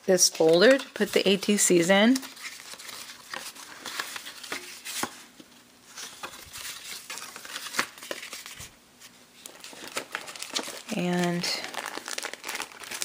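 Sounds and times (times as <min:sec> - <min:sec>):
paper rustling: 0:00.2 - 0:13.0.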